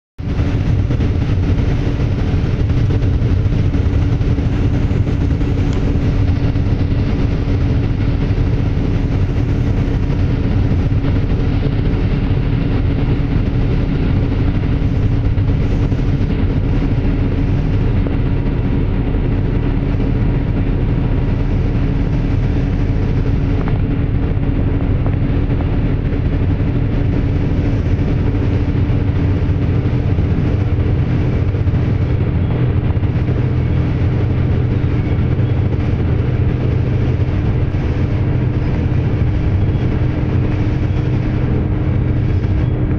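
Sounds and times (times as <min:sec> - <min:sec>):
constant low hum: 0:00.2 - 0:42.9
road rumble: 0:00.2 - 0:42.9
vehicle engine drone: 0:00.2 - 0:42.9.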